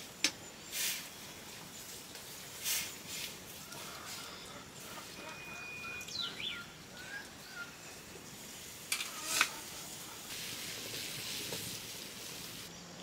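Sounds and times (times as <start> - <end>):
birds calling: 0.0 - 12.8
steady high hiss: 0.0 - 13.0.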